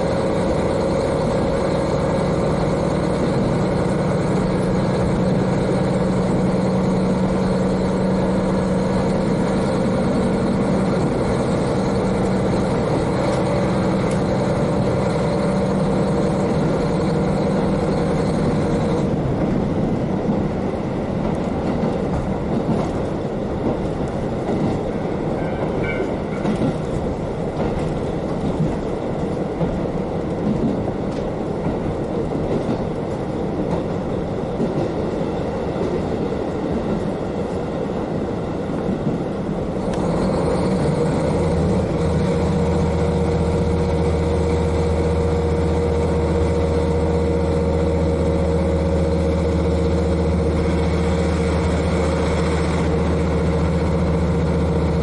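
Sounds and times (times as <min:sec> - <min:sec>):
diesel engine humming: 0:00.0 - 0:55.0
train wheels rolling on rails: 0:00.0 - 0:55.0.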